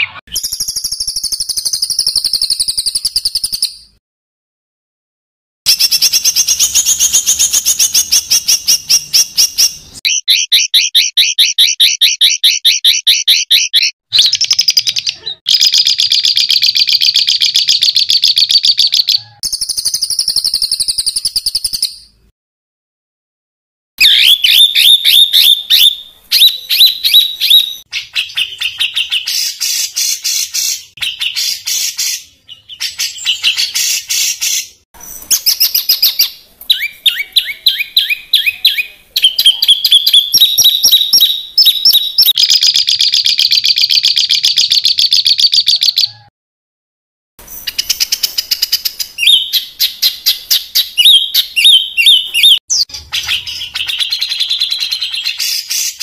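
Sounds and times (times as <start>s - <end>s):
songbird singing harsh rapid phrases: 0.0s - 4.0s, 5.7s - 22.2s, 24.0s - 46.3s, 47.4s - 56.0s.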